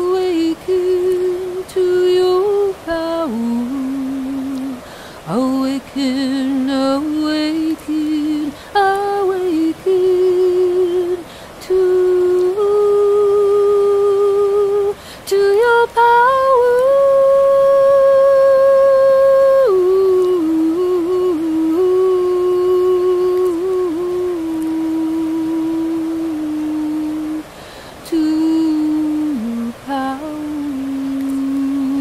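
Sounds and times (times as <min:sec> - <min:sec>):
woman singing wordless held notes: 0:00.0 - 0:32.0.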